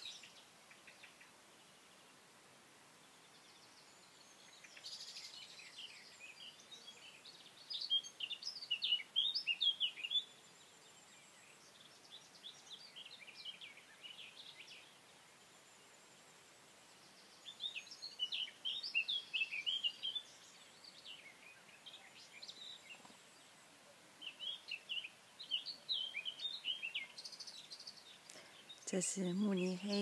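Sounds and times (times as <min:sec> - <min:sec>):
faint outdoor background hiss: 0:00.0 - 0:30.0
songbirds chirping and trilling: 0:00.0 - 0:30.0.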